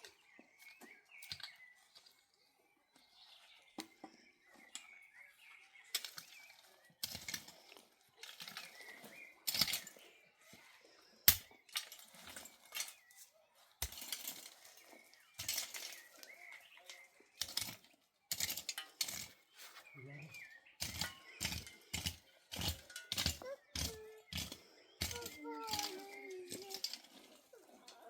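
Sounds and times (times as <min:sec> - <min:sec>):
rustling and crackling materials: 0:00.0 - 0:28.0.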